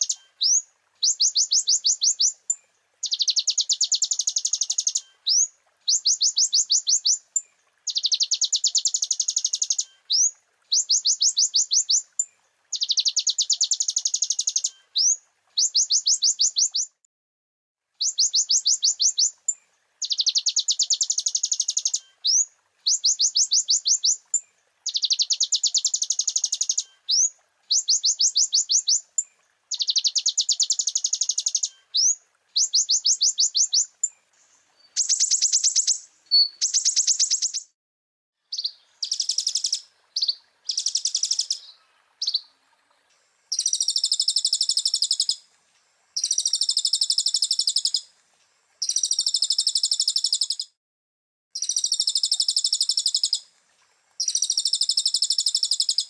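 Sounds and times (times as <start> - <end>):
bird singing high-pitched trills: 0.0 - 2.4, 3.0 - 7.2, 7.9 - 17.0, 18.0 - 19.4, 20.0 - 37.7, 38.5 - 42.5, 43.5 - 45.4, 46.2 - 48.0, 48.8 - 50.7, 51.6 - 53.4, 54.2 - 56.0.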